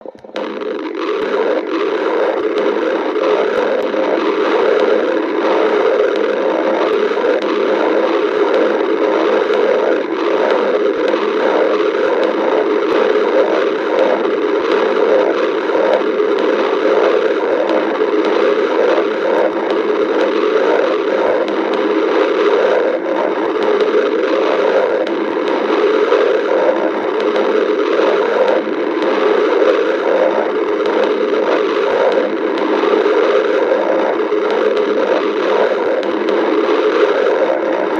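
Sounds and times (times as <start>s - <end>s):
stomach growling: 0.0s - 37.9s.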